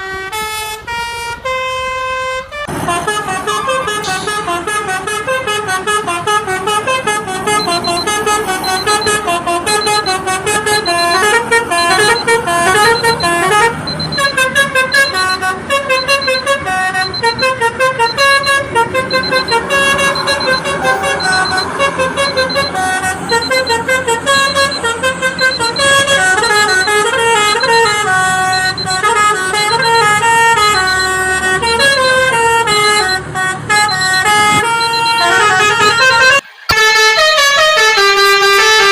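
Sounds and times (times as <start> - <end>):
truck musical horn melody: 0.0 - 38.9.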